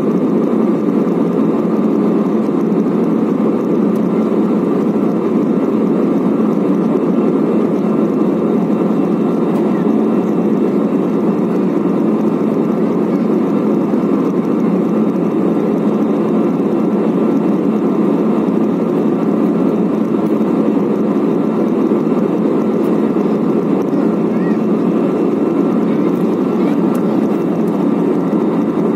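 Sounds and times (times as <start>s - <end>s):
airliner cabin engine noise: 0.0s - 28.9s.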